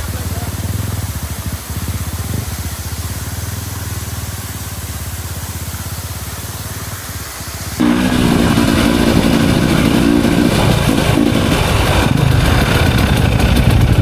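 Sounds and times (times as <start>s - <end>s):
dirt bike engine idling: 0.0s - 14.0s
steady hiss: 0.0s - 14.0s.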